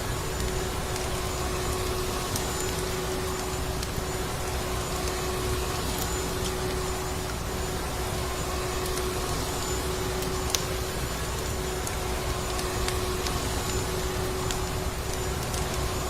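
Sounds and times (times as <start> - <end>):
wood fire crackles: 0.0 - 16.0.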